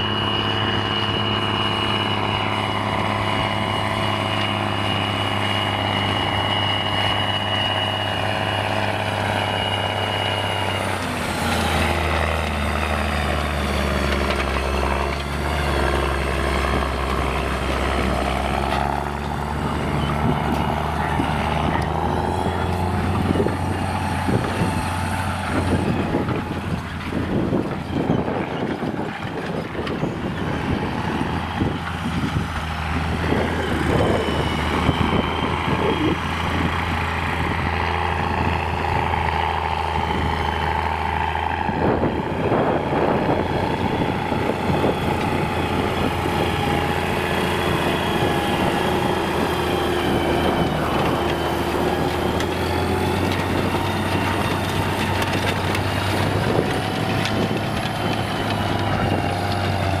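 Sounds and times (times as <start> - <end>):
tractor diesel engine droning: 0.0 - 60.0.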